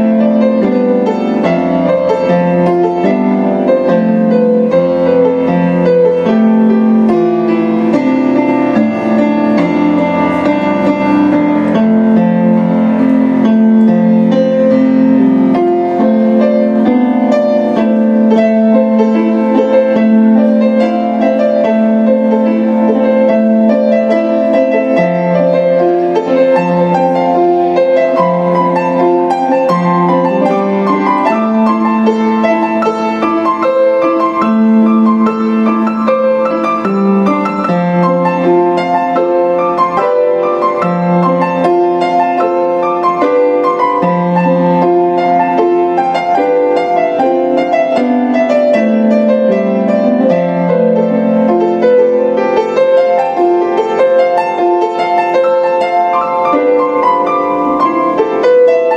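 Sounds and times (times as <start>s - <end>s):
grand piano playing chords: 0.0s - 58.9s.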